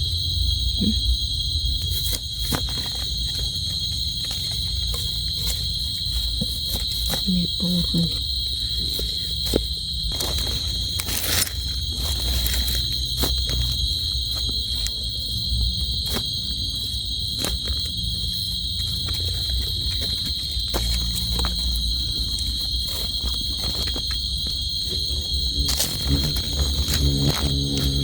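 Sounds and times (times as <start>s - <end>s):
insects droning shrilly: 0.0s - 28.0s.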